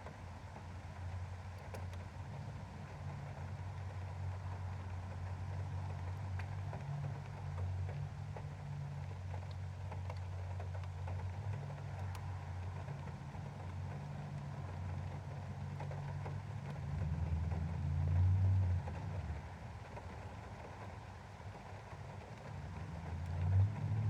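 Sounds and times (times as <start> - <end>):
raindrops ticking on glass: 2.8 - 24.0.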